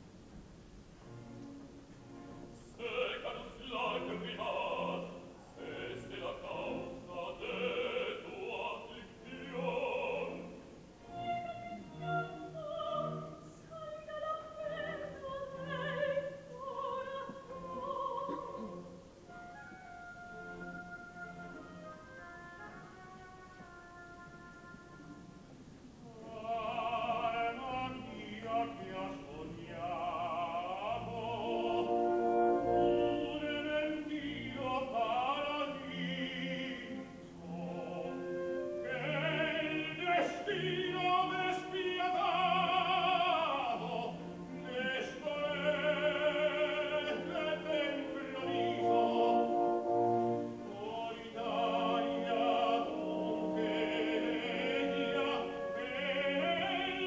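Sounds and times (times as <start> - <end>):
orchestral accompaniment: 0.8 - 57.0
operatic singing with vibrato: 2.4 - 57.0.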